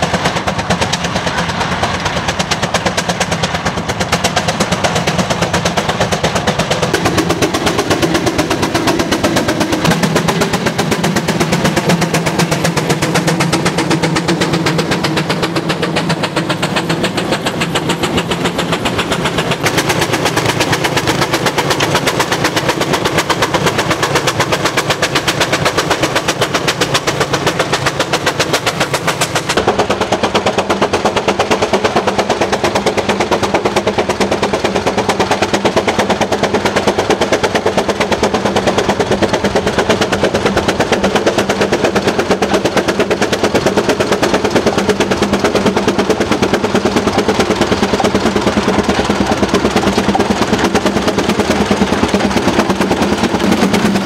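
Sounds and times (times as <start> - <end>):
engine with sharp exhaust beats: 0.0 - 54.0.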